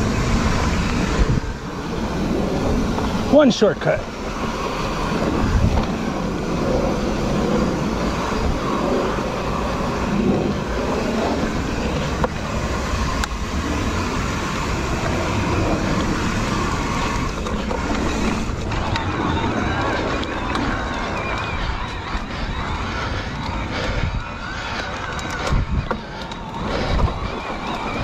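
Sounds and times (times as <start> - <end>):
sharp bike clicks: 0.0 - 28.0
wind and tyre noise: 0.0 - 28.0.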